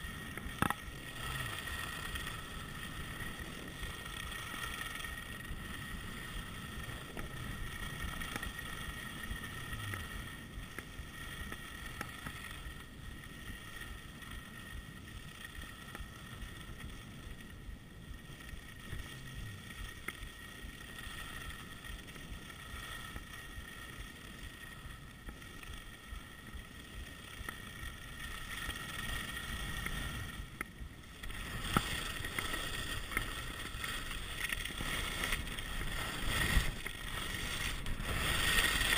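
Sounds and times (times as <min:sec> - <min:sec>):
skis hissing over snow: 0:00.0 - 0:38.9
wind rushing over camera: 0:00.0 - 0:38.9.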